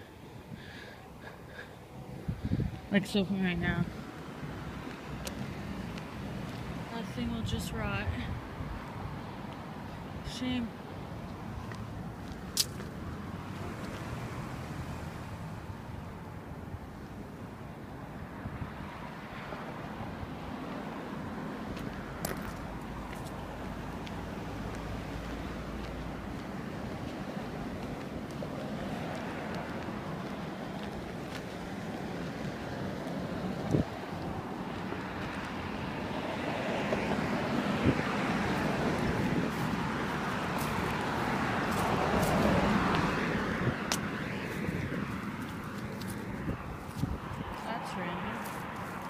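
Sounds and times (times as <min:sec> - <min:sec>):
cars passing: 0:00.0 - 0:49.0
street noise: 0:00.0 - 0:49.0
wind: 0:00.0 - 0:49.0.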